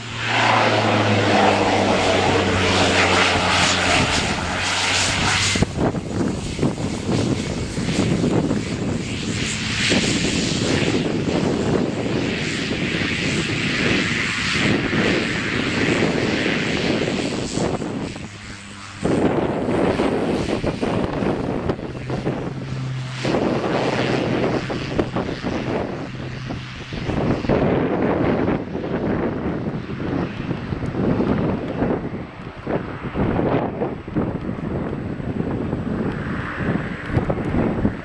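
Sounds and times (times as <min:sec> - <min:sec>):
aircraft engine running: 0:00.0 - 0:38.0.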